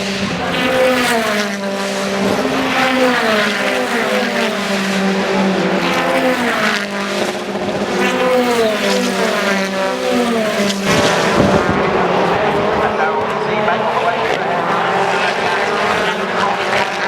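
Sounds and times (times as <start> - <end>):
racing cars passing: 0.0 - 17.0.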